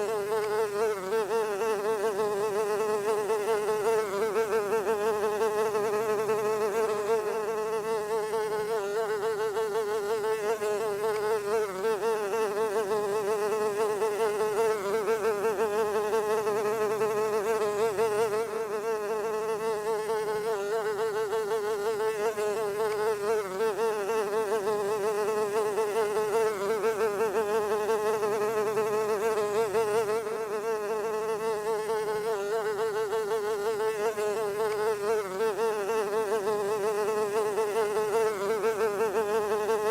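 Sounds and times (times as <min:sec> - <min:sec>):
fly buzzing: 0:00.0 - 0:39.9.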